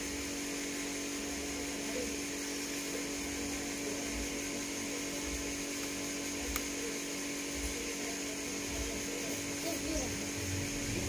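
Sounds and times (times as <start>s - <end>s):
steady hum with hiss: 0.0s - 11.0s.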